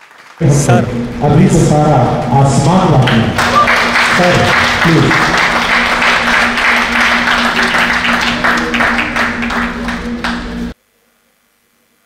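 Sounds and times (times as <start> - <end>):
audience applauding: 0.0 - 10.8
steady low hum: 0.4 - 11.8.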